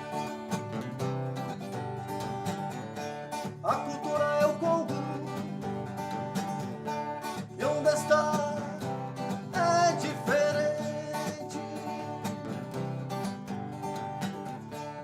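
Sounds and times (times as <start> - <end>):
blues-rock guitar instrumental: 0.0 - 15.0.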